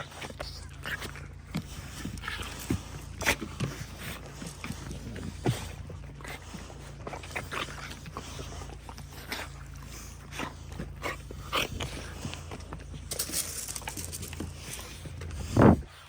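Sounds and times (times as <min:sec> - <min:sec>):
dogs scuffing and clicking: 0:00.0 - 0:15.8
steady low hum: 0:00.0 - 0:16.0.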